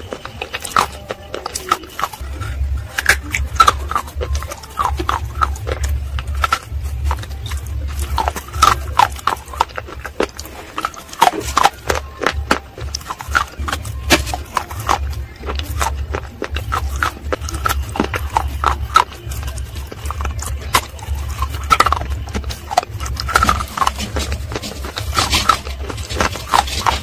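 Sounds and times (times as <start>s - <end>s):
chewing and crunching: 0.0s - 27.0s
steady low hum: 0.0s - 27.0s.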